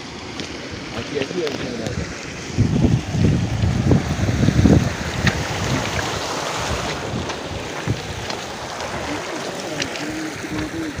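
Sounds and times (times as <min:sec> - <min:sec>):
steady rushing hiss: 0:00.0 - 0:11.0
wind buffeting microphone: 0:00.0 - 0:11.0.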